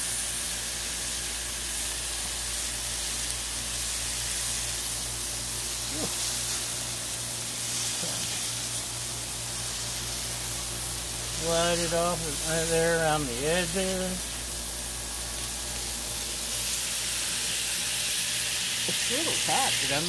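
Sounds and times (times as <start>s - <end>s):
burger patties sizzling on griddle: 0.0s - 20.0s.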